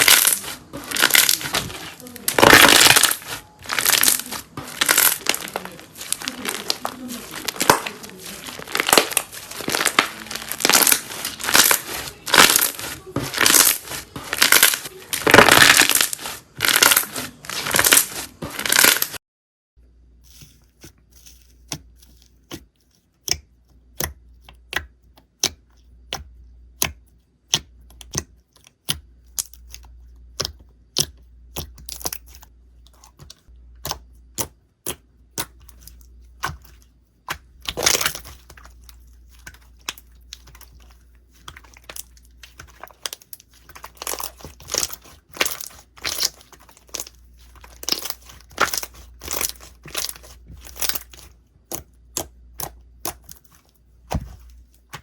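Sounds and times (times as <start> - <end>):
slime crackling and popping: 0.0 - 19.2, 27.5 - 55.0.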